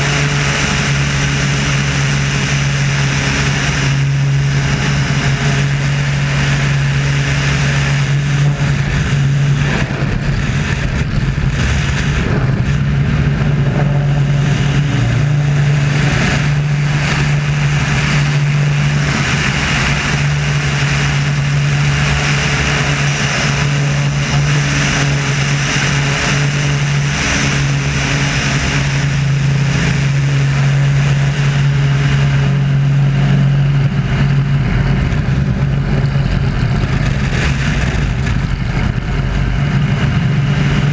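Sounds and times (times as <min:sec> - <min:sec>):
air rushing over camera: 0:00.0 - 0:40.9
propeller plane engine drone: 0:00.0 - 0:40.9.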